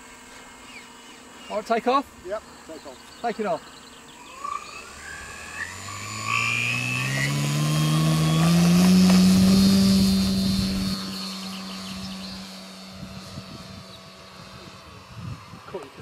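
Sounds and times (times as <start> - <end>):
model plane electric motor whine: 0.0 - 16.0.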